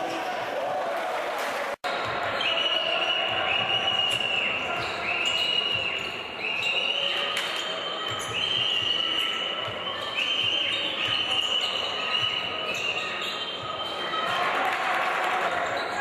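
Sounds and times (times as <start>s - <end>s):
crowd noise: 0.0s - 16.0s.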